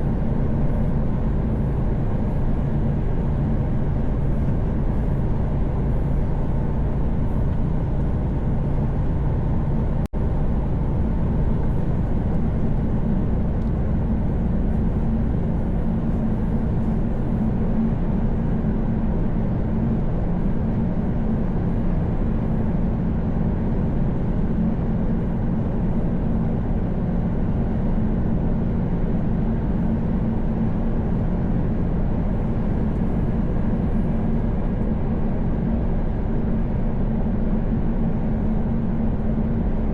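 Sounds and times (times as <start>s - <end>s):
road and wind noise: 0.0s - 39.9s
truck engine drone: 0.0s - 39.9s.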